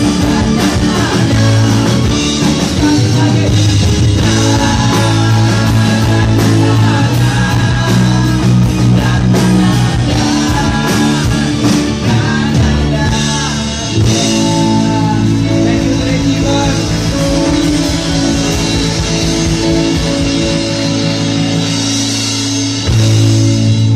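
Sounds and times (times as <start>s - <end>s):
men singing lead and harmony: 0.0s - 21.8s
bass guitar: 0.0s - 23.9s
drums: 0.0s - 23.9s
electric guitar: 0.0s - 23.9s
pop-rock band playing: 0.0s - 23.9s.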